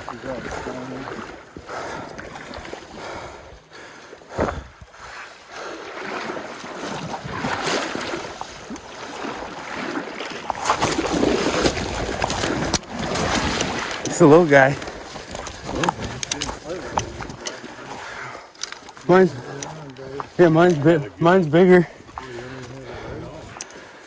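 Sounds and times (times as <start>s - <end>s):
stream water splashing: 0.0s - 24.0s.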